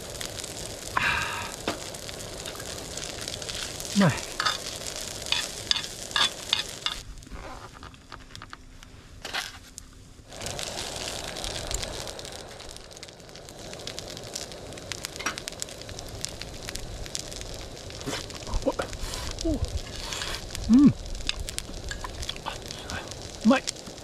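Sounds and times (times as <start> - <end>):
food sizzling in a hot pan: 0.0 - 7.3, 10.2 - 24.0
sharp crackles and pops: 0.0 - 24.0.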